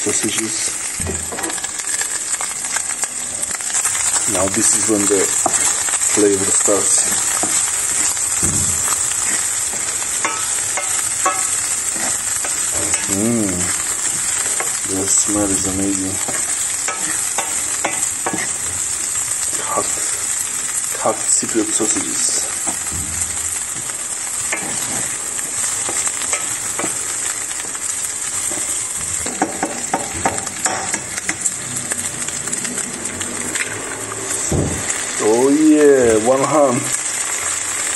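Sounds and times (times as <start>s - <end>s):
sausages sizzling in a frying pan: 0.0s - 37.9s
wooden spatula scraping a pan: 0.3s - 35.0s.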